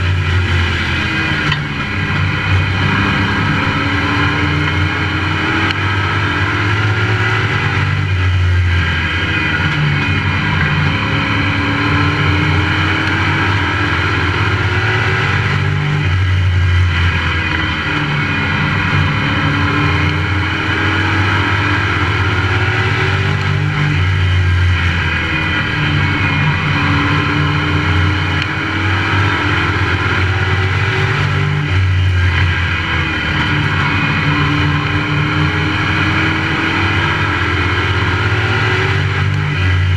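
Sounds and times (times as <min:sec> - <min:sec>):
race truck engine: 0:00.0 - 0:39.9.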